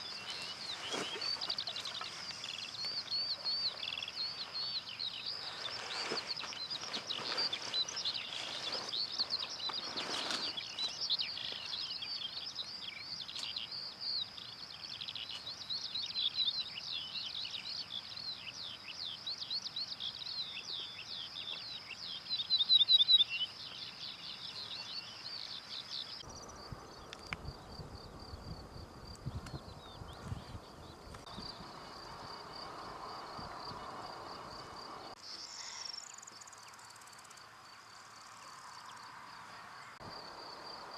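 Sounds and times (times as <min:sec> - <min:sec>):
songbirds twittering: 0:00.0 - 0:40.9.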